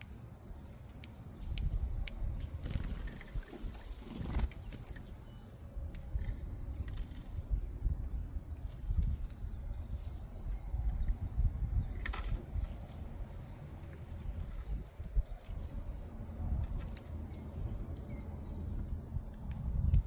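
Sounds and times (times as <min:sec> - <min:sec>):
blackbirds chirping: 0:00.0 - 0:20.0.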